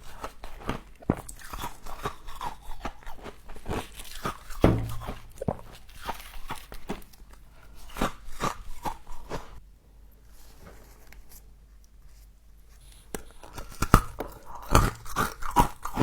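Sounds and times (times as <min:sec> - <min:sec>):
crunching and chewing frost: 0:00.0 - 0:09.6, 0:10.3 - 0:16.0.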